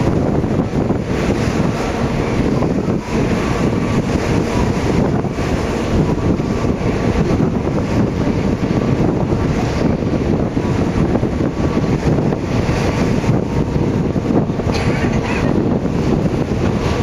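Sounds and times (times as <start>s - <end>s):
paddle steamer rumble: 0.0s - 17.0s
wind buffeting microphone: 0.0s - 17.0s.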